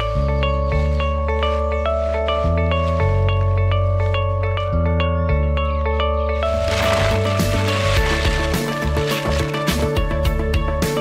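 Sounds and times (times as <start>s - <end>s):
held bass line: 0.0s - 11.0s.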